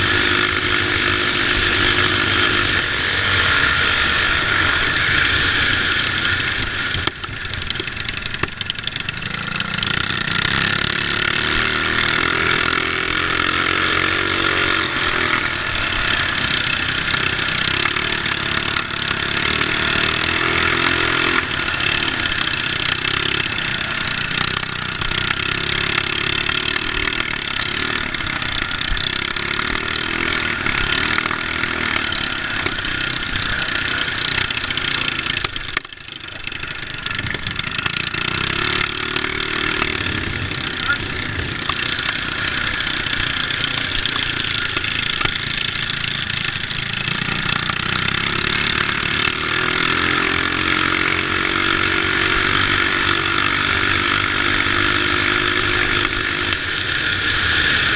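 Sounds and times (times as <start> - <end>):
mini bike engine revving: 0.0 - 57.9.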